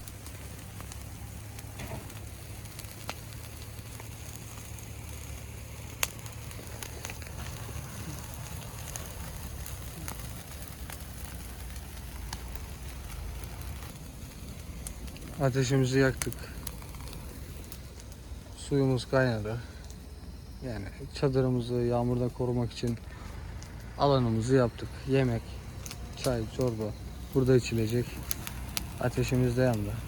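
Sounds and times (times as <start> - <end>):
campfire crackling and popping: 0.0 - 30.0
steady low rumble: 0.0 - 30.0.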